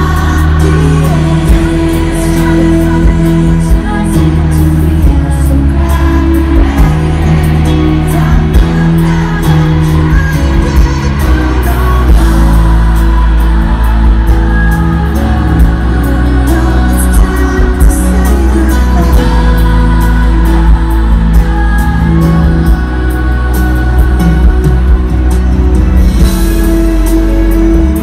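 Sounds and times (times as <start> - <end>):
people singing: 0.0 - 25.4
live pop band playing: 0.0 - 28.0.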